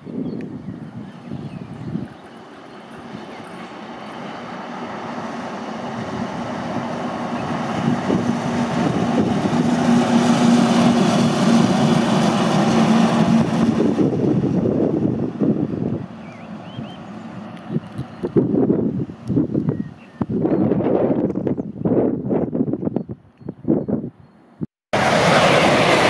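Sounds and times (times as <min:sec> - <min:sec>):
locomotive diesel engine drone: 0:00.0 - 0:20.4, 0:25.0 - 0:26.0.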